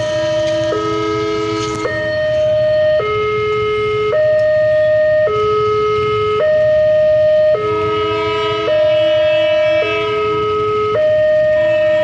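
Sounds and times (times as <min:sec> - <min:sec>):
two-tone crossing warning siren: 0:00.0 - 0:12.0.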